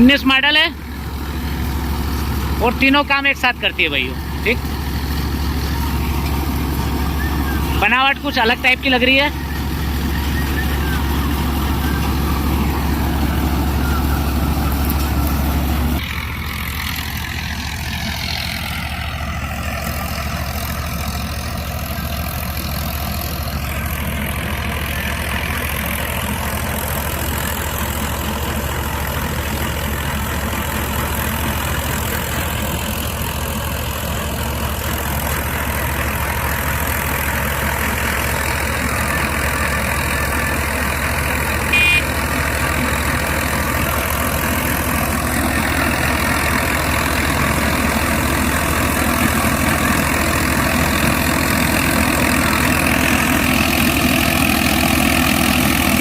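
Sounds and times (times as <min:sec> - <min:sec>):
combine harvester drone: 0:00.0 - 0:56.0.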